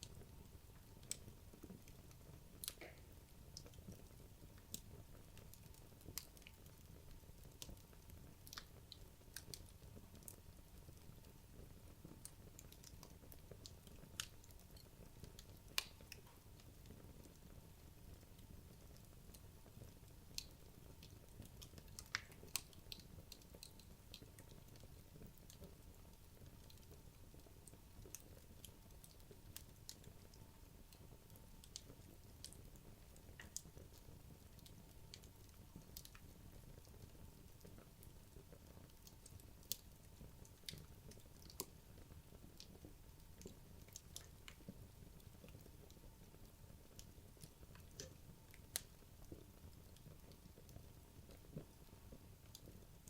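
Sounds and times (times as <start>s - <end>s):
logs crackling in fireplace: 0.0s - 53.0s.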